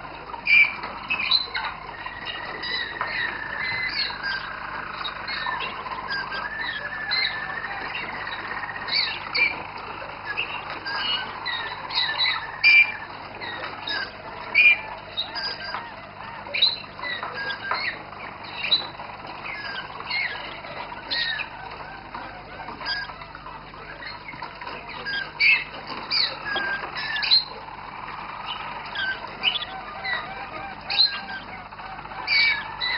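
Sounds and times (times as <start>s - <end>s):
canaries singing: 0.0s - 32.9s.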